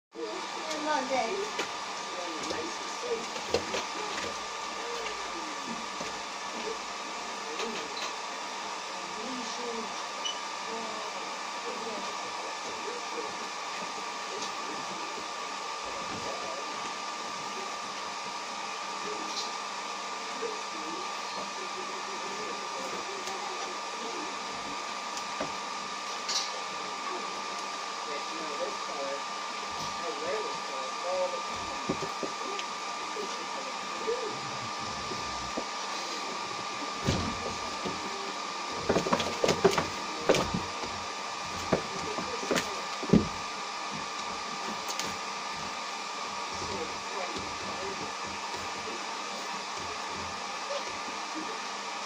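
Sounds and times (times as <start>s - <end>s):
appliance whirring hiss and hum: 0.2s - 52.0s.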